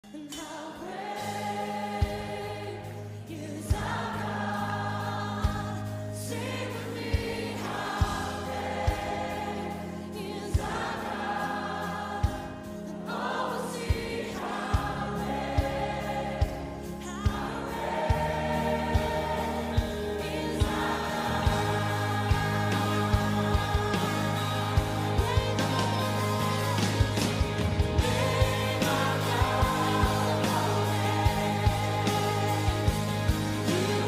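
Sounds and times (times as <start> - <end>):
choir singing: 0.1 - 34.0.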